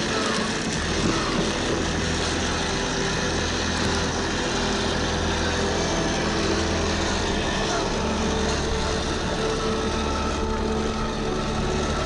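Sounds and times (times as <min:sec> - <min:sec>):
rc car electric motor running: 0:00.0 - 0:12.0.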